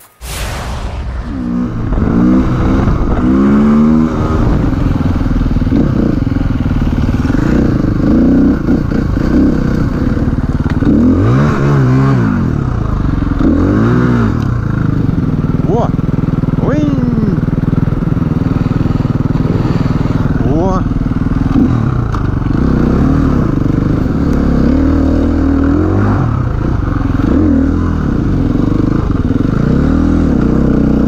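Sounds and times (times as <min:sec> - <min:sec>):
motorcycle engine revving: 0:01.0 - 0:31.0.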